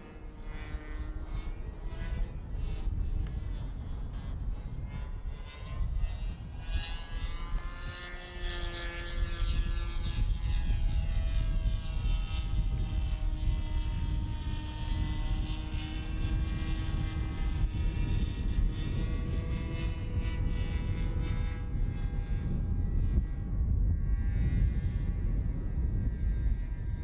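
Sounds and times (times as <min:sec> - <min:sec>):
model airplane motor buzzing: 0:00.0 - 0:27.0.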